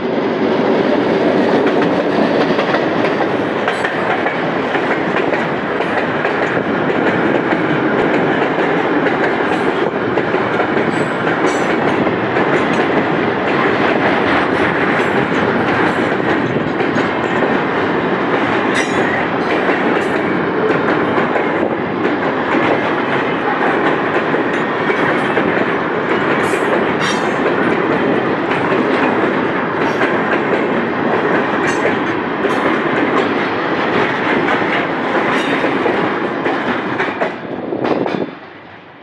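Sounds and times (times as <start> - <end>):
diesel locomotive passing: 0.0 - 39.0
train wheels rumbling and clacking: 0.0 - 39.0.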